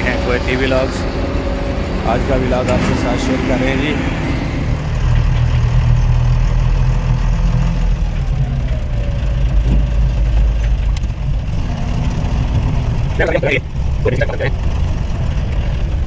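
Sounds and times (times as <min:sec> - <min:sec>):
crane diesel engine rumbling: 0:00.0 - 0:16.0.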